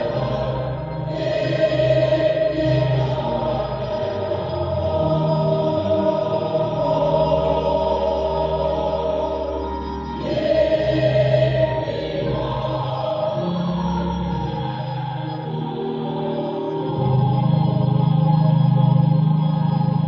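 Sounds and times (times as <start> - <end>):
choir singing slow chords: 0.0 - 20.0
steady bass: 0.0 - 20.0.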